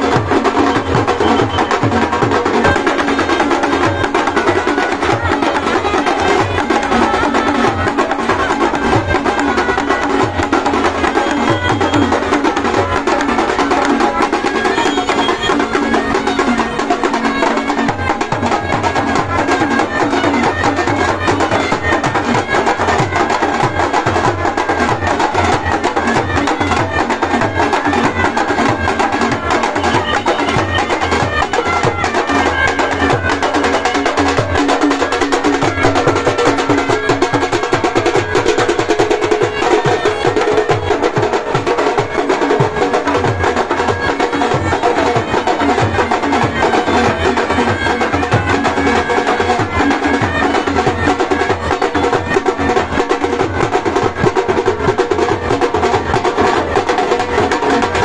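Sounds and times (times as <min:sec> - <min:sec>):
percussion-heavy music: 0:00.0 - 0:58.0.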